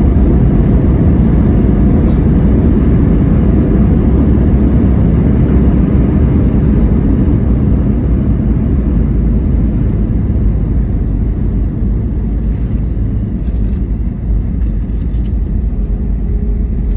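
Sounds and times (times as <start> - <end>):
airliner engines rumbling on runway: 0.0 - 16.9.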